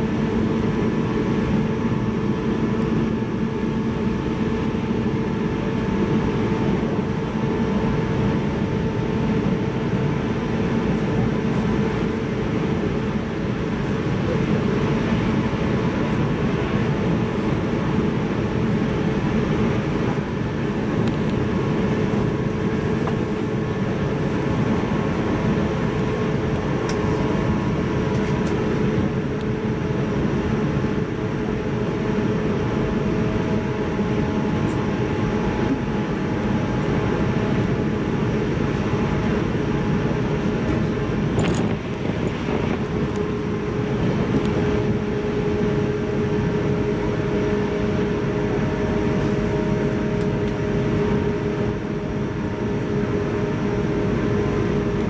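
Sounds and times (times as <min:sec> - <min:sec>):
steady train hum: 0:00.0 - 0:55.0
wheels rumbling on rail: 0:00.0 - 0:55.0.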